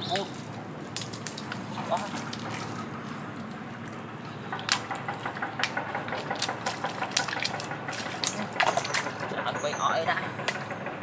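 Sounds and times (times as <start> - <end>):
mud and water squelching and splashing: 0.0 - 10.7
sharp wet clicks: 0.0 - 10.9.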